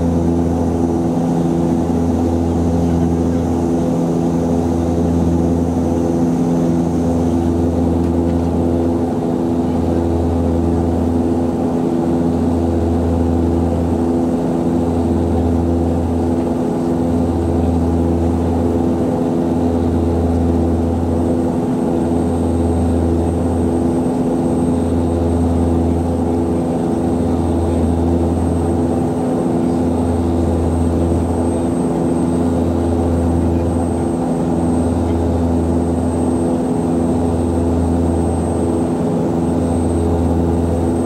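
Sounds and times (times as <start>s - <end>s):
turboprop cabin drone: 0.0s - 41.0s.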